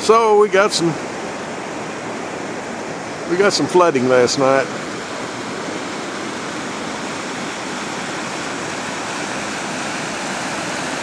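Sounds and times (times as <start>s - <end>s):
floodwater rushing through culverts: 0.0s - 11.0s.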